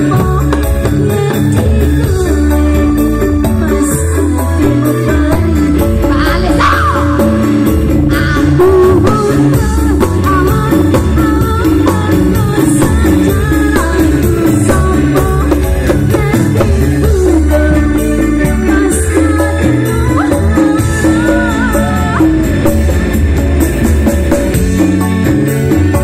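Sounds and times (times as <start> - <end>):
woman singing: 0.0 - 22.9
electronic keyboard with steady beat: 0.0 - 26.0.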